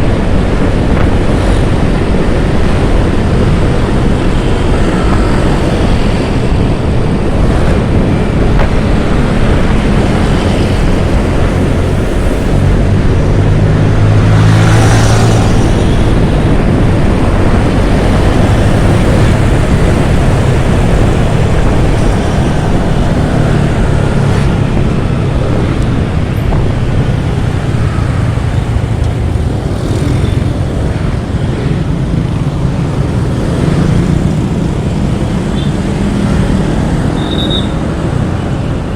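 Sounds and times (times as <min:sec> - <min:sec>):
motorcycle engine drone: 0:00.0 - 0:38.9
wind rush over microphone: 0:00.0 - 0:38.9.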